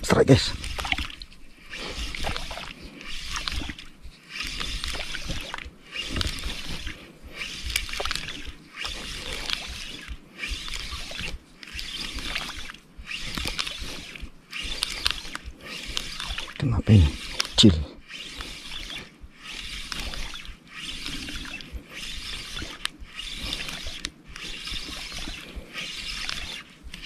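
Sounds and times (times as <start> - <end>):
fishing reel whirring: 0.0 - 27.0.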